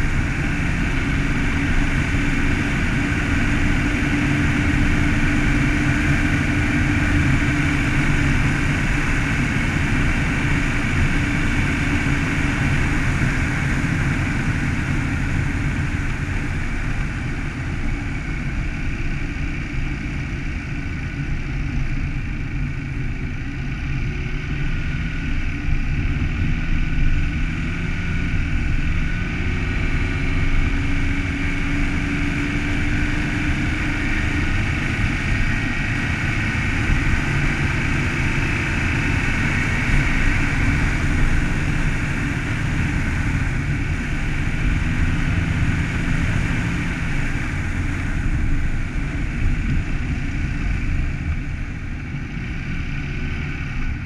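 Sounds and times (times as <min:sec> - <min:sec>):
car engine hum: 0:00.0 - 0:54.0.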